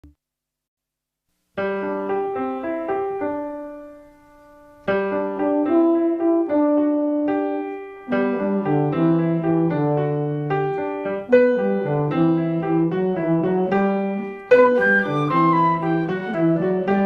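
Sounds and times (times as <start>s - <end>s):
piano music: 1.6s - 17.0s.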